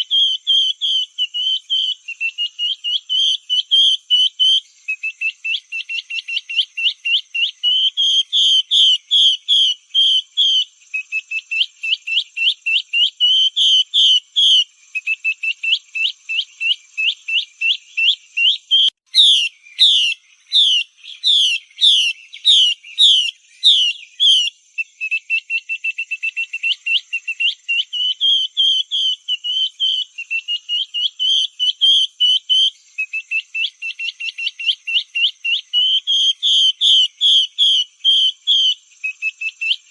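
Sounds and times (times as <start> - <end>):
bird slurred whistles: 0.0 - 39.8
bird calling repeated notes: 0.0 - 39.9.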